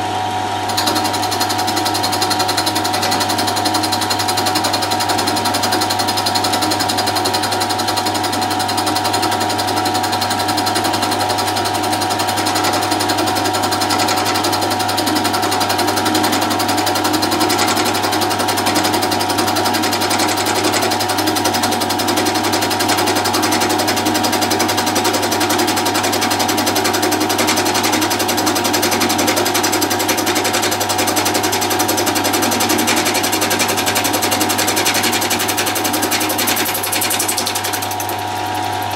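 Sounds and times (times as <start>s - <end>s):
cutter milling wood: 0.0s - 38.9s
milling machine hum and whine: 0.0s - 38.9s.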